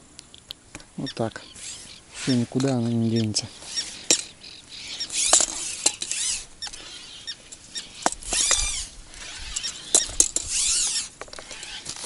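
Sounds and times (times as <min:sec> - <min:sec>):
squeaks swooping in pitch: 0:01.0 - 0:11.8
sharp clicks of fishing tackle: 0:01.5 - 0:12.0.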